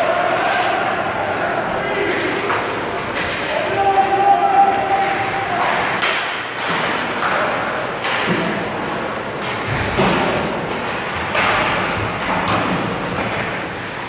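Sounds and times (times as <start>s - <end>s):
sticks and puck knocking on boards: 2.0s - 14.0s.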